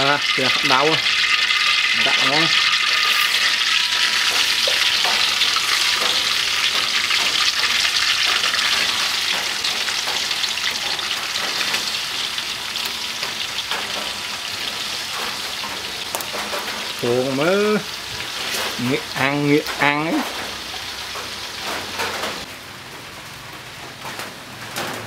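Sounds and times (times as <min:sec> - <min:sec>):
food frying in hot oil: 0:00.0 - 0:25.0.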